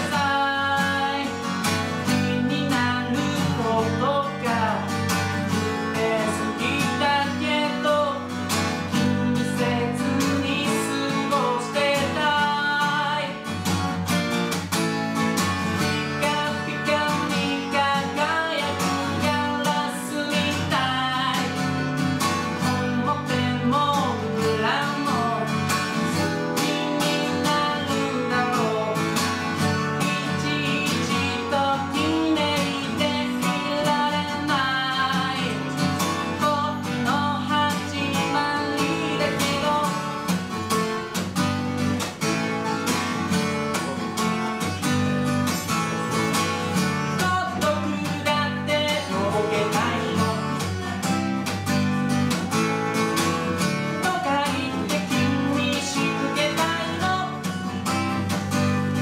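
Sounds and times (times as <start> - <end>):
man singing: 0.0 - 13.8, 15.8 - 42.2, 43.5 - 59.0
acoustic guitar strumming: 0.0 - 59.0.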